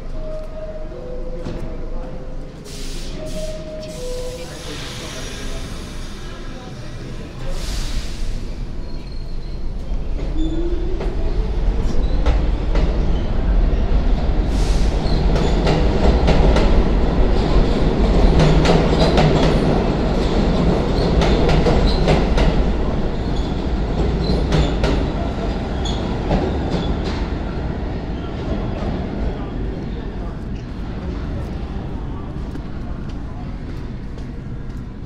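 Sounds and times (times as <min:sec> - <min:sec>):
subway train rumbling: 0:00.0 - 0:35.0.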